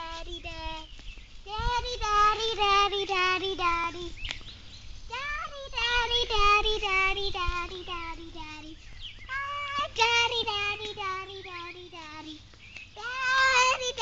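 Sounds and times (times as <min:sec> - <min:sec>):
girl singing wordless tune: 0:00.0 - 0:04.2, 0:05.1 - 0:14.0.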